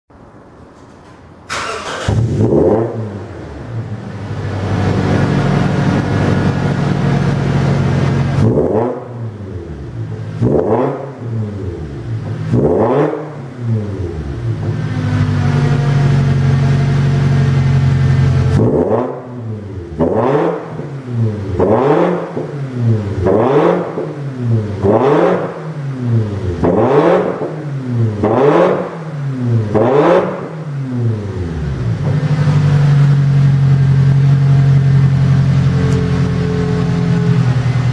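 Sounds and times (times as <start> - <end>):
car engine idling and revving: 0.9 - 37.9.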